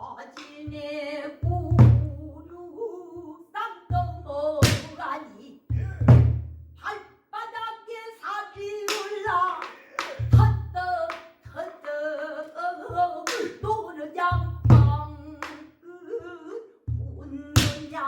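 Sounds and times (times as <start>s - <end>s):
ornamented solo singing: 0.0s - 18.0s.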